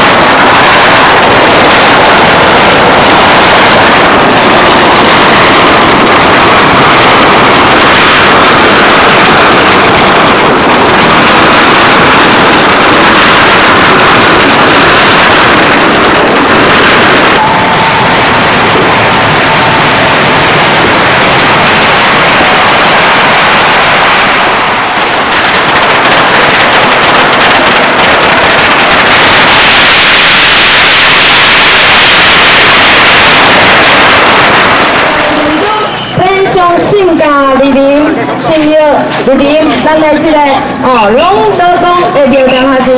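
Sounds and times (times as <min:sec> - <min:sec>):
firecrackers crackling: 0:00.0 - 0:42.9.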